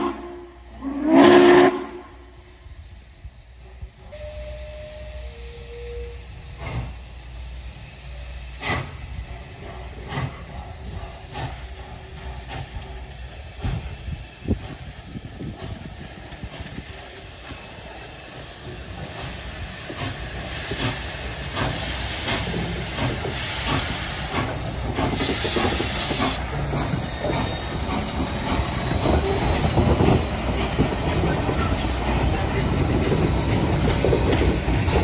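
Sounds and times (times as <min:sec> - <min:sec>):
hissing steam: 0:00.0 - 0:35.0
steam locomotive chuffing: 0:00.0 - 0:35.0.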